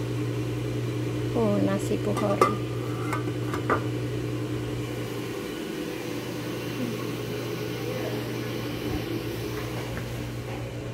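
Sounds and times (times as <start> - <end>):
low mechanical hum of machine: 0.0 - 10.9.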